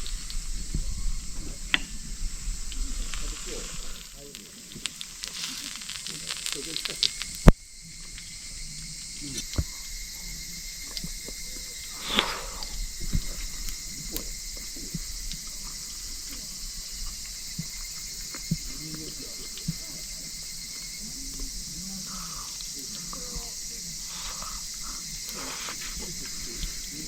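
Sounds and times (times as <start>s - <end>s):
high insect chirring: 0.0s - 27.0s.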